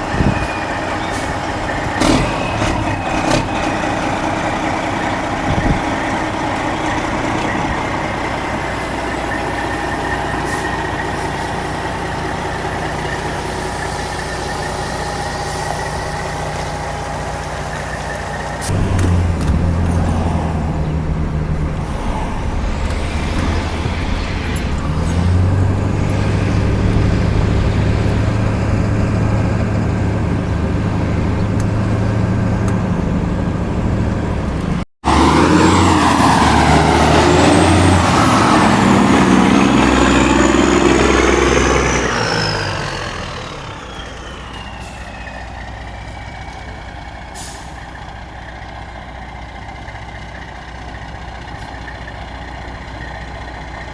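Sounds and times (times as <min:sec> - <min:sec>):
rushing noise: 0:00.0 - 0:34.2, 0:35.0 - 0:45.7
truck engine running: 0:00.0 - 0:53.9.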